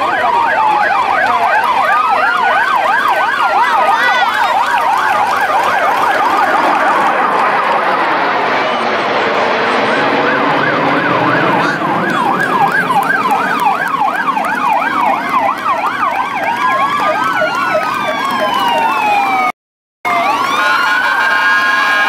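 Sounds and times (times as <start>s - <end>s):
siren wailing: 0.0s - 22.0s
siren yelping: 0.0s - 22.0s.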